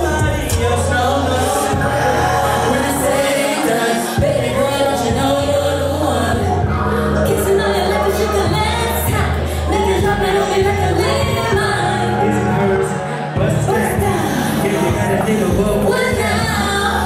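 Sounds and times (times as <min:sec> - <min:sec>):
person singing: 0:00.0 - 0:17.0
sustained bass notes: 0:00.0 - 0:17.0.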